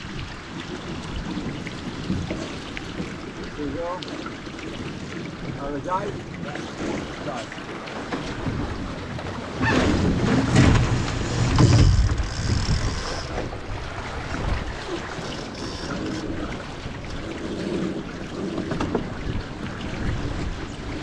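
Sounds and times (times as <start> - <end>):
water washing against hull: 0.0 - 21.0.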